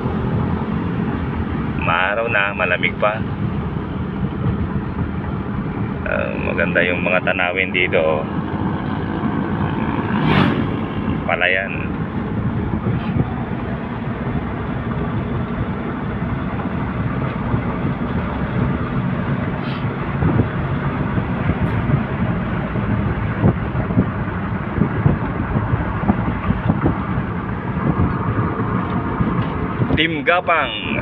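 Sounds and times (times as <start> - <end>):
car engine and tyre noise: 0.0 - 31.0.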